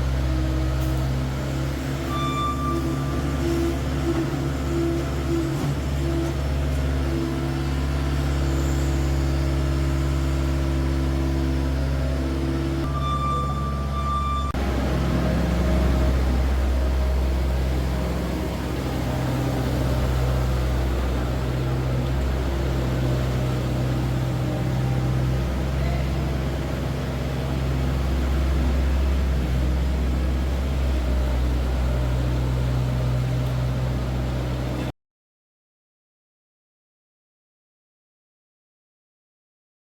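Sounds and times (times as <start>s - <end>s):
diesel loader engine running: 0.0s - 34.9s.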